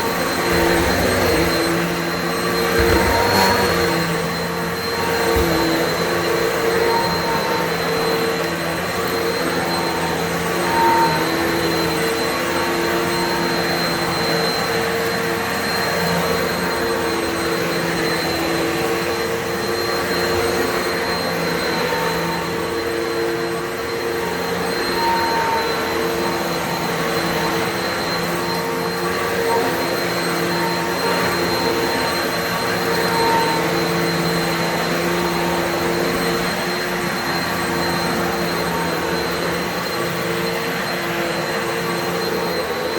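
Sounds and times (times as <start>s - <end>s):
vacuum cleaner on carpet: 0.0s - 42.9s.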